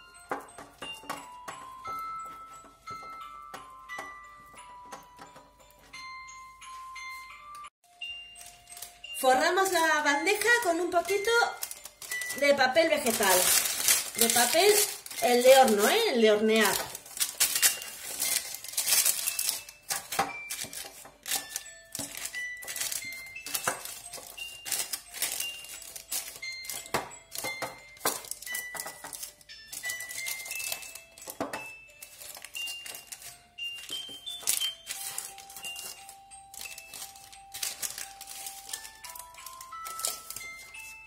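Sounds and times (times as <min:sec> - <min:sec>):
soft background music: 0:00.0 - 0:41.0
baking paper crinkling: 0:08.1 - 0:41.0.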